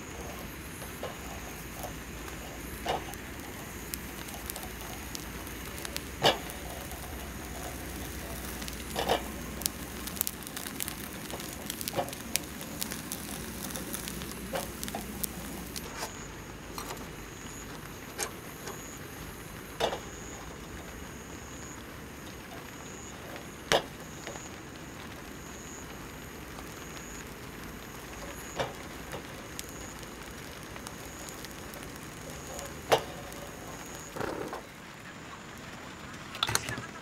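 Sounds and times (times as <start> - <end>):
food crackling and popping on grill: 0.0 - 37.0
gas stove hiss: 0.0 - 37.0.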